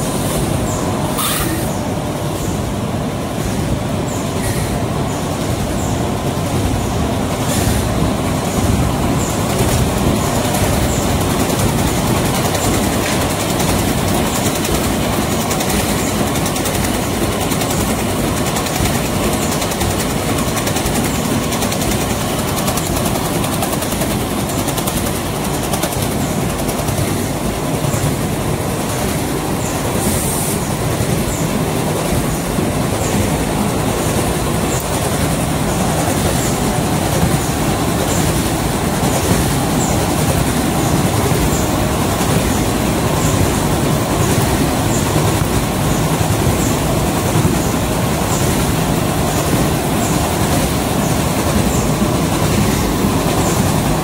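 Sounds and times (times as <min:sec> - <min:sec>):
printing machine mechanical clatter: 0:04.3 - 0:54.0.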